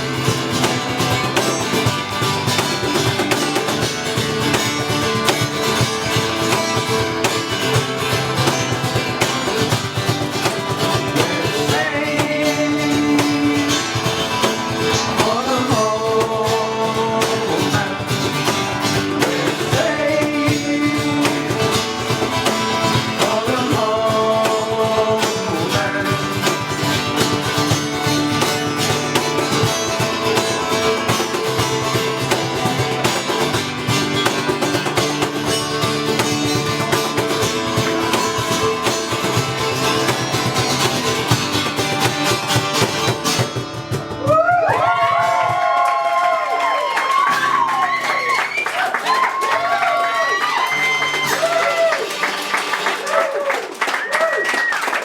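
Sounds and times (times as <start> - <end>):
strummed guitar: 0.0 - 53.2.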